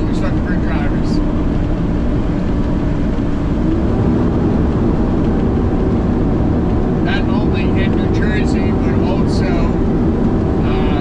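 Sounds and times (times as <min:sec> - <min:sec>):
diesel truck engine drone: 0:00.0 - 0:11.0
road rumble: 0:00.0 - 0:11.0.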